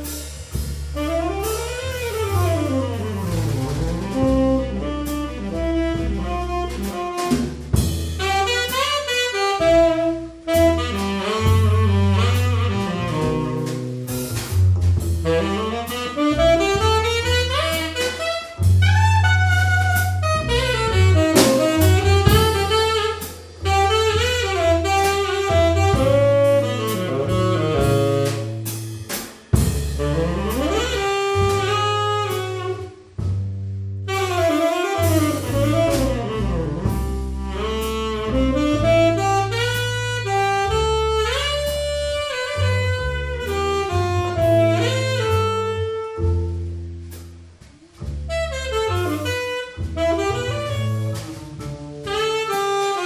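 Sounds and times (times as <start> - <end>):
tenor saxophone melody: 0.0 - 14.3, 15.2 - 29.0, 29.9 - 33.0, 34.1 - 46.8, 47.8 - 53.0
double bass: 0.0 - 53.0
drums with cymbal strokes: 0.0 - 53.0.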